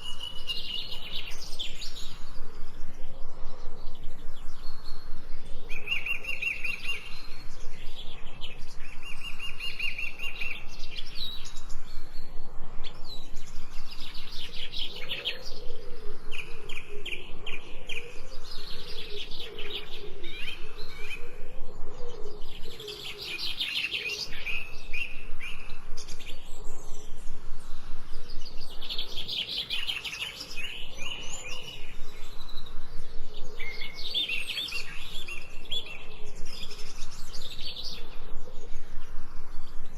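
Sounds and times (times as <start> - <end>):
birds chirping in trills: 0.0 - 39.9.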